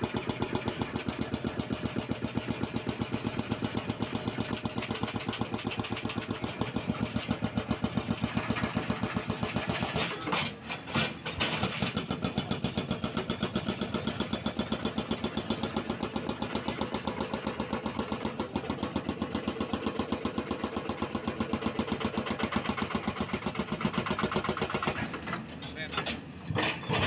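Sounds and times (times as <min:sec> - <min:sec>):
hydraulic breaker hammering concrete: 0:00.0 - 0:27.0.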